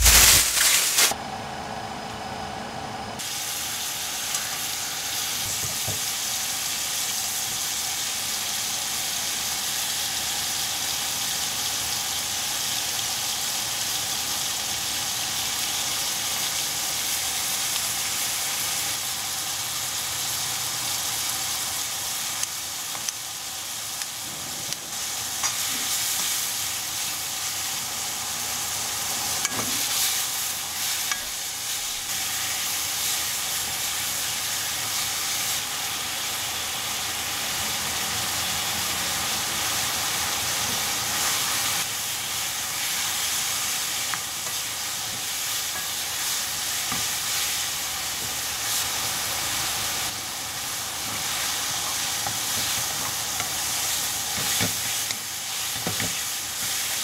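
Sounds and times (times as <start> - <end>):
pork sizzling in a pan: 0.0 - 1.2, 3.2 - 57.0.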